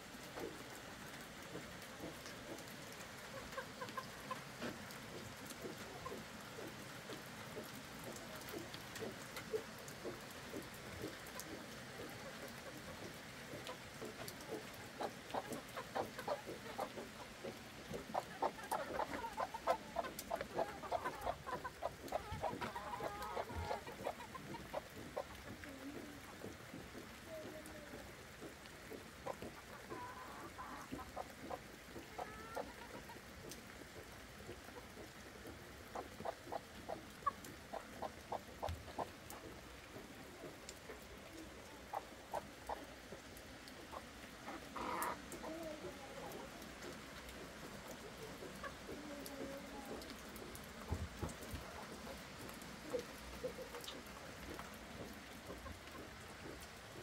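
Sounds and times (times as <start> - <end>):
chickens' drawn-out calls: 0.3 - 27.7, 28.4 - 57.0
chickens clucking: 0.3 - 57.0.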